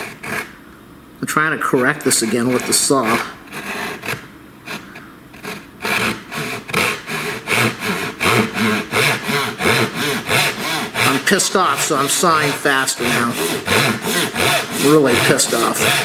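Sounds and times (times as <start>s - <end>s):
hand saw cutting wood: 0.0s - 0.5s, 1.8s - 16.0s.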